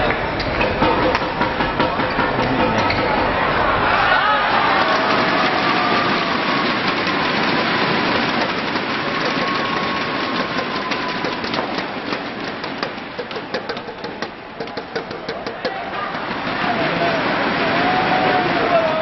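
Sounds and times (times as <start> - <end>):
crowd applauding and cheering: 0.0 - 19.0.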